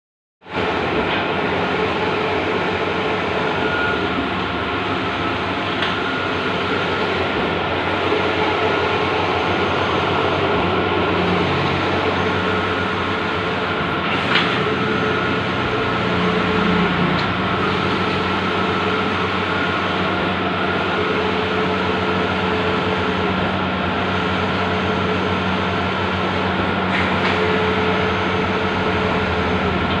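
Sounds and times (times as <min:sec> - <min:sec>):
printer mechanical whir: 0:00.5 - 0:30.0.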